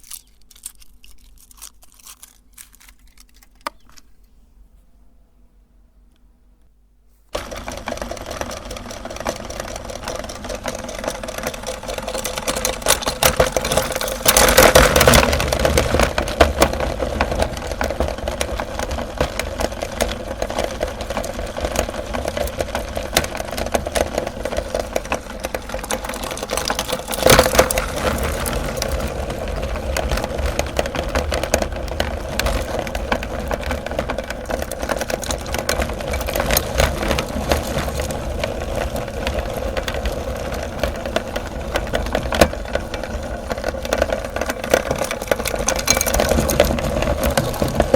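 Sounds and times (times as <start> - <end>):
candy crunching: 0.0 - 4.3, 11.6 - 47.9
electric meat grinder running: 7.4 - 47.9.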